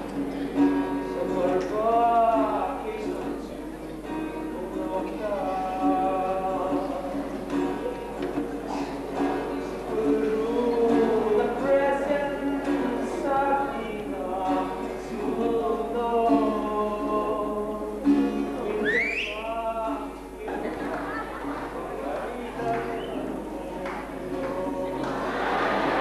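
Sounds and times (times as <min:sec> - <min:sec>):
man singing: 0:00.0 - 0:08.1, 0:09.0 - 0:20.8, 0:21.9 - 0:25.2
acoustic guitar: 0:00.0 - 0:26.0.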